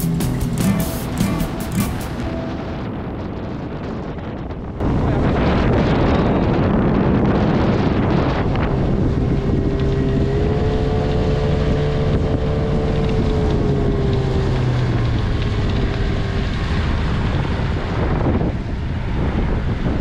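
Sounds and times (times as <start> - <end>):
boat motor whine: 0.0 - 20.0
wind buffeting microphone: 2.2 - 20.0.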